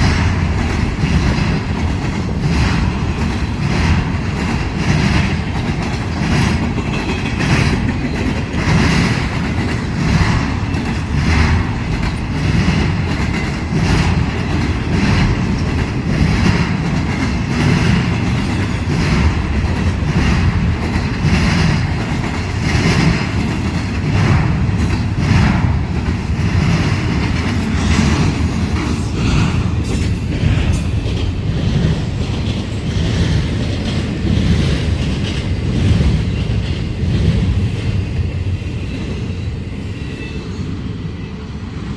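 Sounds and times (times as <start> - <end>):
wheels clacking over rail joints: 0.0 - 38.0
freight train rumbling past: 0.0 - 41.9.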